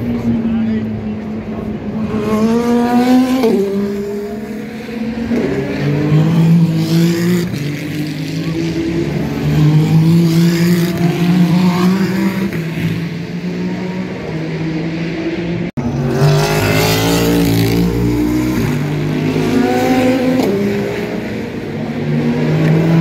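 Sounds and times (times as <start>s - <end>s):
race car engines downshifting: 0.0s - 23.0s.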